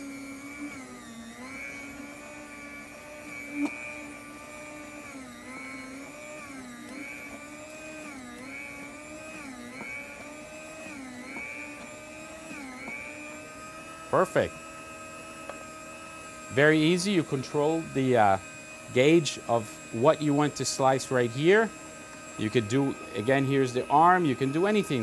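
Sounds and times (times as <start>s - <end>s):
food slicer motor humming: 0.0s - 25.0s.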